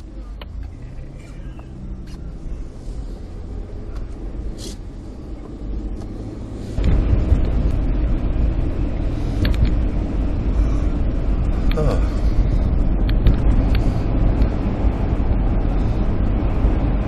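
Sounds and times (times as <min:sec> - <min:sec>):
car interior rumble: 0:00.0 - 0:17.0
loud low rumble: 0:00.0 - 0:17.0.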